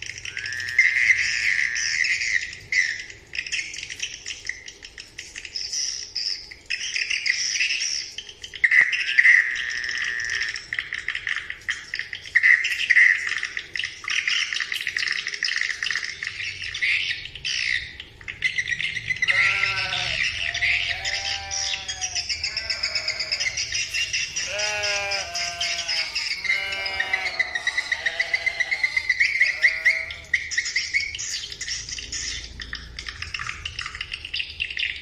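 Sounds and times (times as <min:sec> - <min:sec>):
lower-pitched chirping calls: 0:00.0 - 0:35.0
high-pitched bird twittering: 0:00.1 - 0:04.0, 0:05.4 - 0:35.0.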